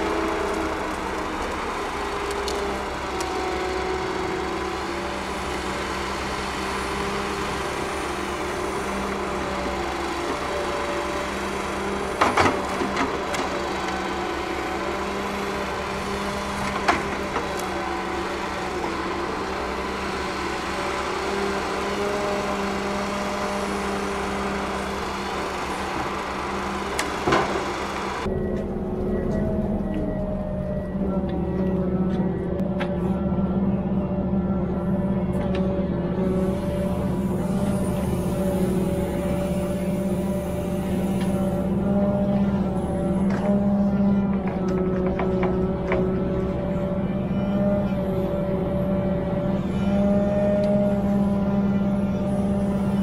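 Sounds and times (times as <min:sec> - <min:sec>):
diesel engine running: 0:00.0 - 0:53.0
hydraulic crane working: 0:00.0 - 0:53.0.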